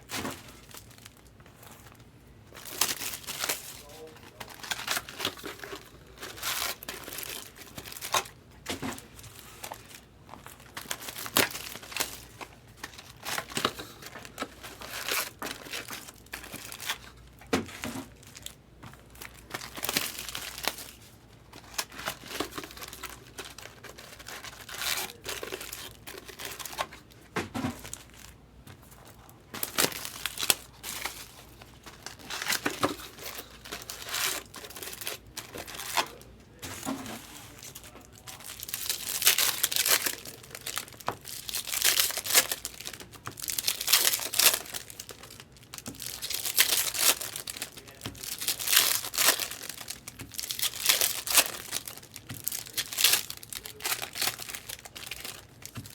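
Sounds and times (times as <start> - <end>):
card pack wrappers crinkling and tearing: 0.0 - 55.9.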